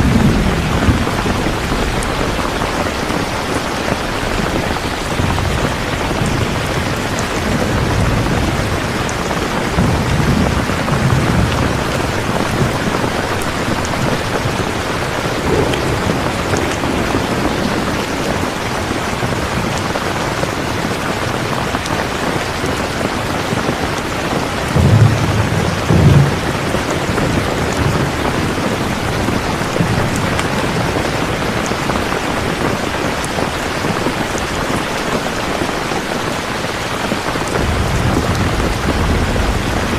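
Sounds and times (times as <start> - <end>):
thunder rumbling: 0.0 - 36.3, 37.1 - 39.9
heavy rain falling: 0.0 - 39.9.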